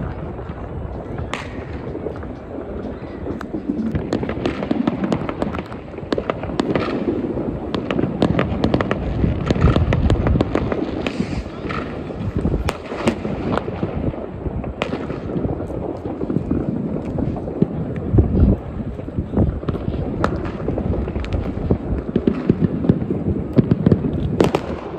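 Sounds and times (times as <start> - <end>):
distant explosions rumbling: 0.0 - 24.9
firework bangs and crackles: 0.0 - 24.9.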